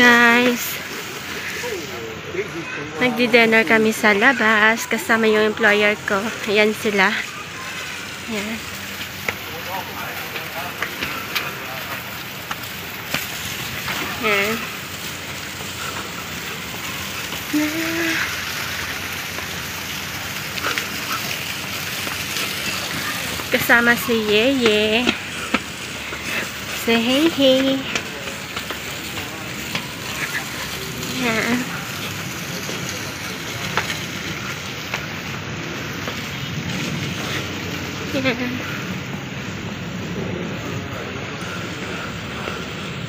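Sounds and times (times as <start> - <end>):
hissing outdoor noise: 0.0 - 43.0.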